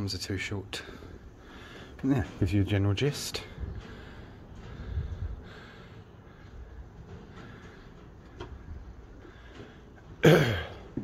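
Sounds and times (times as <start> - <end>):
low rumble of wind: 0.9 - 10.2.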